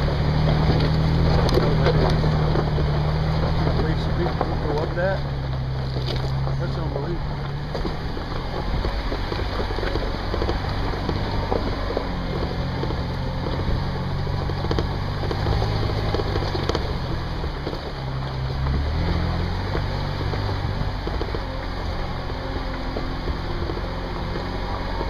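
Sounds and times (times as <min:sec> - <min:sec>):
vehicle engine running at low speed: 0:00.0 - 0:25.0
vehicle rattles and knocks: 0:00.0 - 0:25.0.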